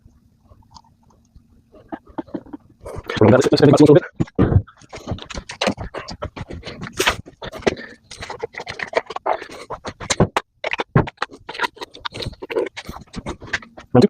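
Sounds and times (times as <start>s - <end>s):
scratching and scraping: 0.4s - 14.0s.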